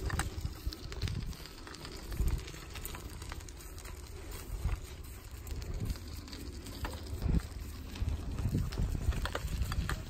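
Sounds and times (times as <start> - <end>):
bicycle tyres rumbling on dirt: 0.0 - 10.0
light ticks and crackles: 0.0 - 10.0.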